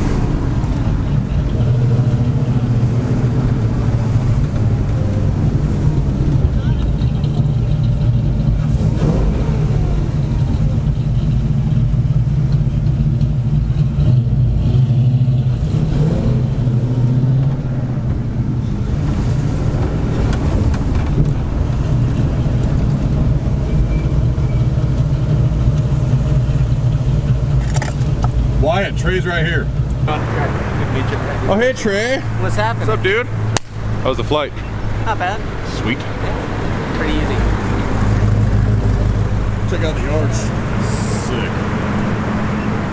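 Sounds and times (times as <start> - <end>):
car engine low drone: 0.0 - 42.9.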